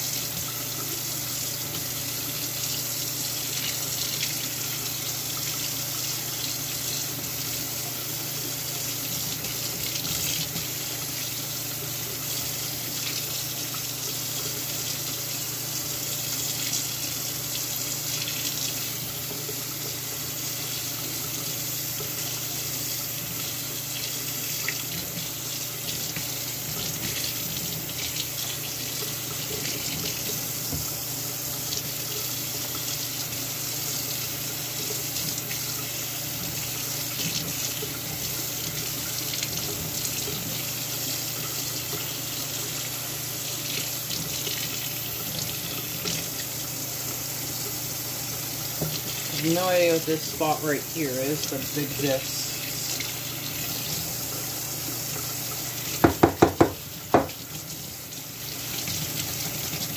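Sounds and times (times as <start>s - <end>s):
water splashing into sink: 0.0s - 59.9s.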